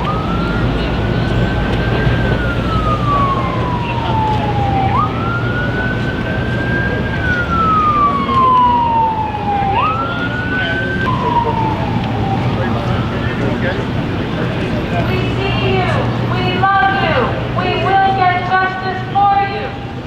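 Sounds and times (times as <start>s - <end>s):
emergency siren wailing: 0.0s - 20.0s
street traffic hum: 0.0s - 20.0s.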